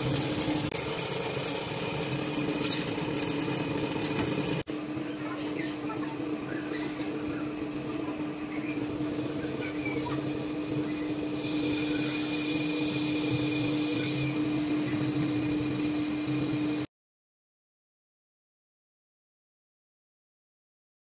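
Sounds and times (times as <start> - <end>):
metal lathe humming: 0.0 - 16.9.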